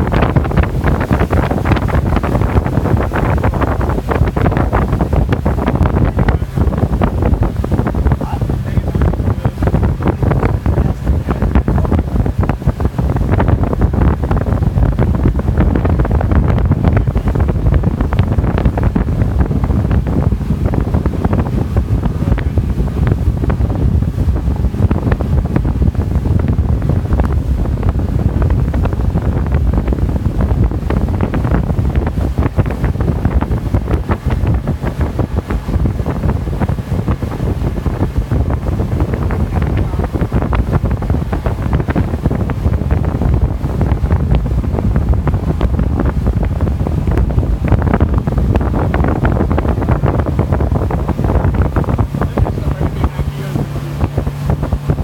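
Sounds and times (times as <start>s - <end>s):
boat engine: 0.0s - 55.0s
water rushing past hull: 0.0s - 55.0s
wind buffeting microphone: 0.0s - 55.0s.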